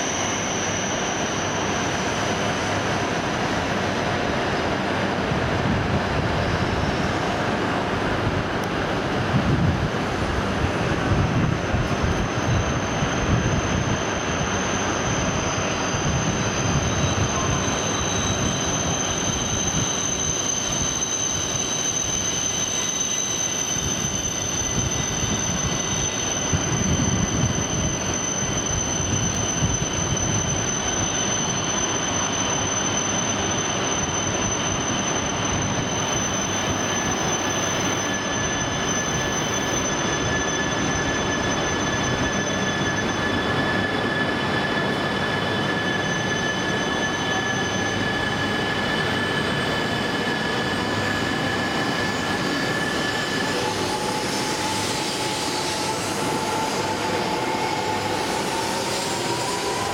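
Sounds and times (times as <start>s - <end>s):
low whine of train moving off: 0.0s - 59.9s
high-pitched whines: 10.9s - 59.9s
train equipment hissing: 11.7s - 59.9s.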